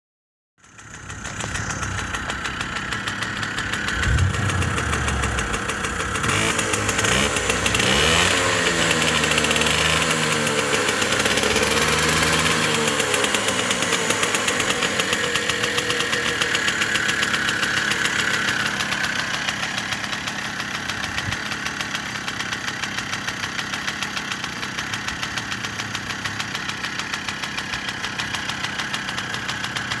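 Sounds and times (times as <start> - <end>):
two-stroke moped engine running: 0.6 - 30.0.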